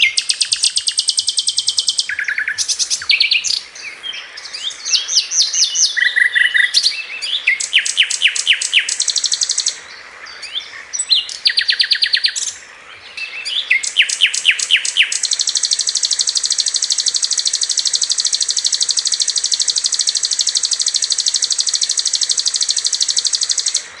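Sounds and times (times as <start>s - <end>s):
fast bird trill: 0.0s - 3.8s, 4.4s - 9.8s, 10.4s - 12.6s, 13.2s - 24.0s.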